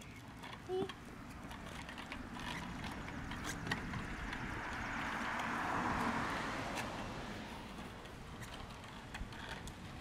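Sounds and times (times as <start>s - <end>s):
bicycle rolling on concrete: 0.0s - 10.0s.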